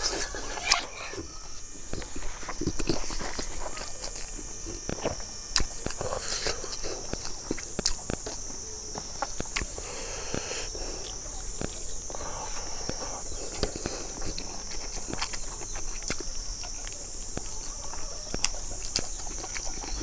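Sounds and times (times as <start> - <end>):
steady high-pitched drone: 0.0 - 20.0
wet chewing and lip smacks: 0.0 - 20.0.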